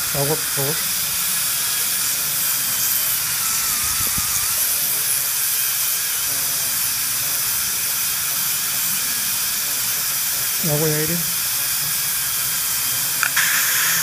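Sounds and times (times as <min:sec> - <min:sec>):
dental handpiece hissing: 0:00.0 - 0:14.0.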